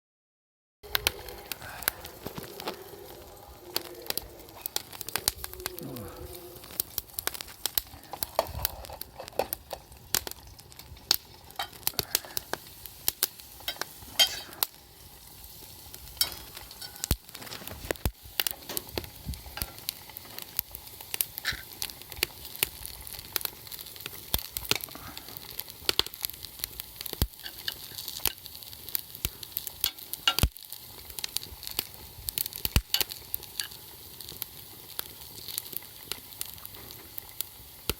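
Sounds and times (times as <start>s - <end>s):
campfire hiss: 0.8s - 37.9s
campfire pops and snaps: 0.8s - 37.9s.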